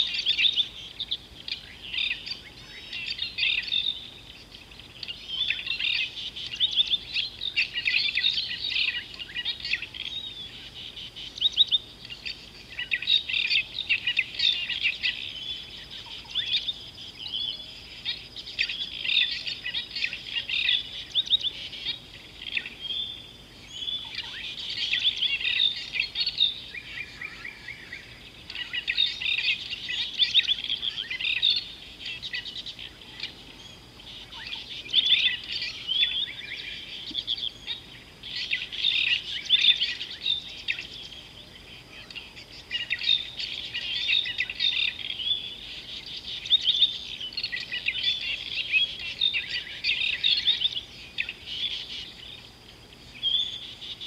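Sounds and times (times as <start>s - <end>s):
birds chirping in chorus: 0.0s - 54.0s.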